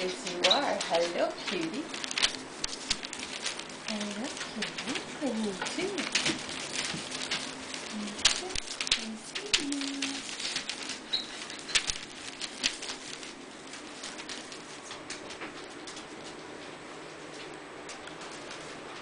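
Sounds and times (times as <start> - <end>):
puppies scratching on newspaper: 0.0 - 19.0.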